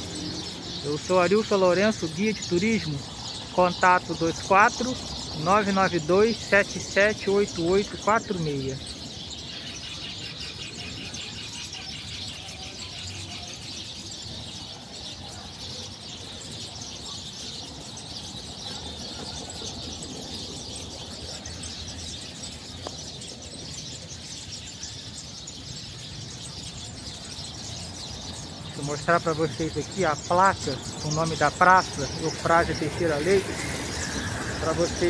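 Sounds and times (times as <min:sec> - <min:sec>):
flock of birds chirping: 0:00.0 - 0:35.0.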